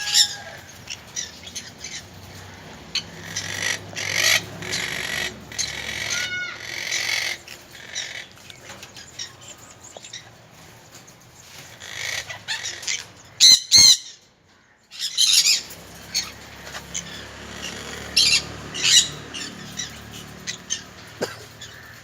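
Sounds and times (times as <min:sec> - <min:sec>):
parrot squawking and screeching: 0:00.0 - 0:10.3, 0:11.7 - 0:14.2, 0:14.9 - 0:22.0.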